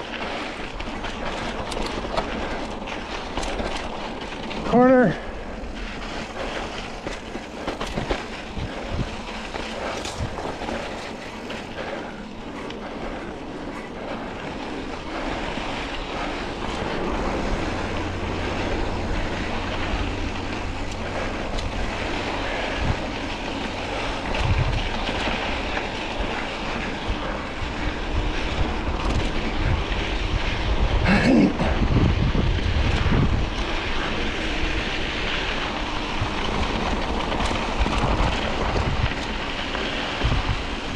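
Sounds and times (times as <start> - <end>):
bike rattles and knocks: 0.0 - 40.9
tyres crunching over gravel: 0.0 - 40.9
wind buffeting microphone: 0.0 - 40.9.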